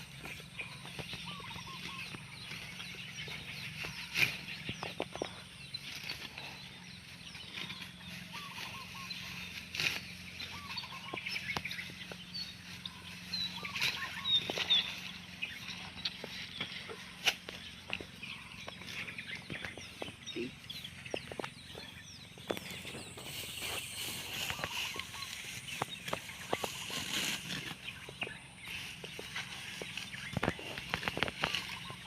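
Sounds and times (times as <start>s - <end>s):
chickens clucking: 0.0s - 32.0s
small birds chirping: 0.0s - 32.0s.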